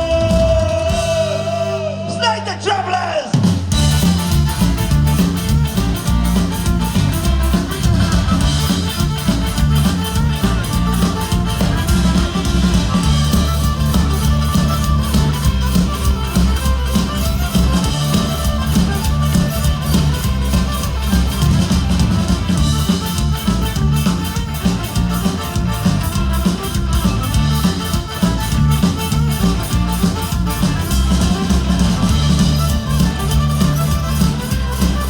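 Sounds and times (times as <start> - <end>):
drum kit fast beat: 0.0 - 1.8, 3.4 - 35.0
bass: 0.0 - 35.0
fiddle: 0.0 - 35.0
electric guitar: 3.7 - 35.0.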